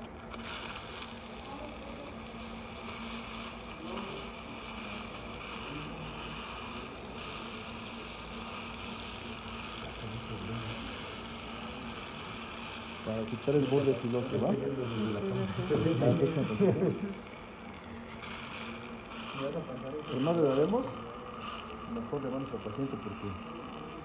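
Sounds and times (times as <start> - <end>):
suction aspirator hissing and humming: 0.0 - 24.0.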